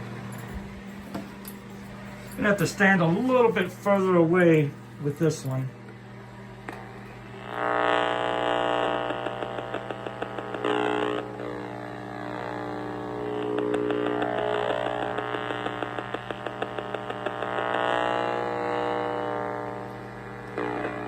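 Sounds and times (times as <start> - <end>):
meter buzzing with crackle: 0.0 - 21.0.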